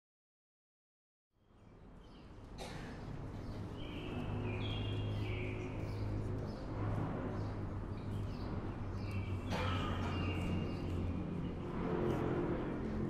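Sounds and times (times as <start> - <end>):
birds chirping: 1.4 - 13.0
steady low hum: 1.8 - 13.0.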